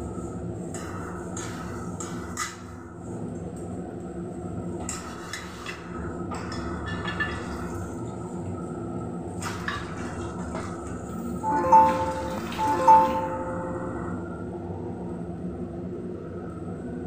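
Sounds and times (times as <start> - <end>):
gas burner low hum: 0.0 - 15.1.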